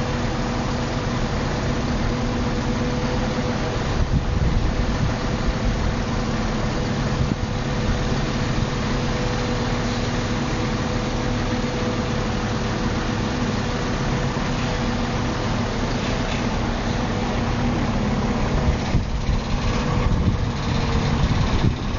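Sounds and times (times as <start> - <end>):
forklift engine hum: 0.0 - 21.9.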